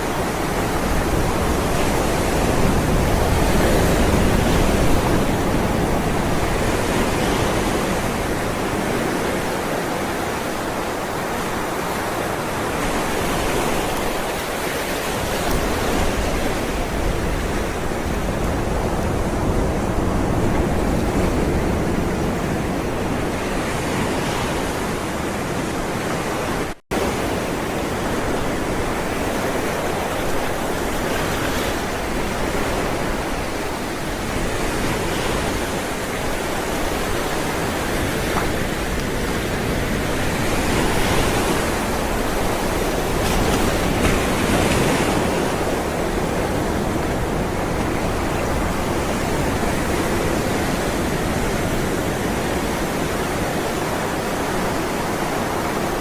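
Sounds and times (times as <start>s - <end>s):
ocean waves on shore: 0.0s - 56.0s.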